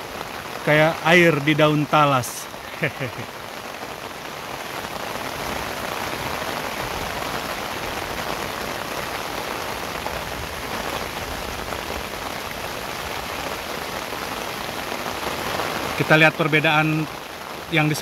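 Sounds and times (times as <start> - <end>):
rain on a tarp: 0.0 - 18.0.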